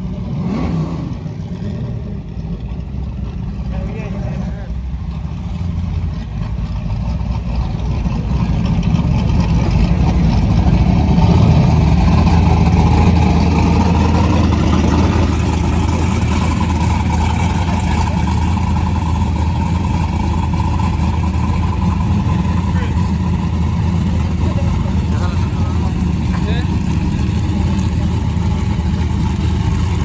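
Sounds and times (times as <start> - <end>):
truck engine under load: 0.0 - 30.0.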